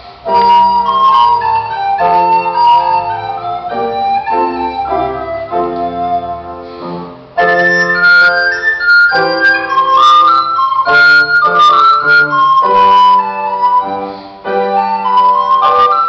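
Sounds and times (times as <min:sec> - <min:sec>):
piano chords: 0:00.0 - 0:16.0
recorder melody: 0:00.0 - 0:16.0.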